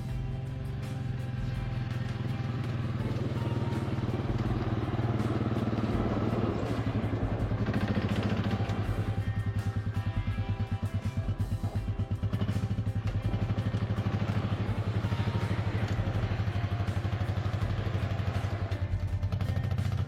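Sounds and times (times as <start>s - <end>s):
music playing: 0.0s - 20.0s
vehicle engine running: 0.0s - 20.0s.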